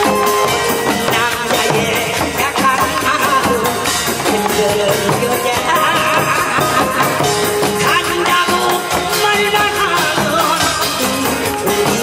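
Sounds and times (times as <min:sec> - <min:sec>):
amplified backing music: 0:00.0 - 0:12.0
hand drums beating: 0:00.0 - 0:12.0
man singing through microphone: 0:00.0 - 0:12.0.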